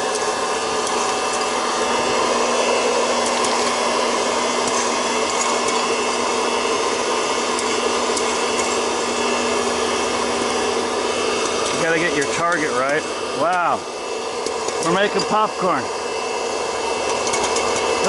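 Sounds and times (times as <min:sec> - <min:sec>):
popcorn kernels popping: 0:00.0 - 0:15.4, 0:16.9 - 0:18.0
hot-air blower rush with hum: 0:00.0 - 0:18.0.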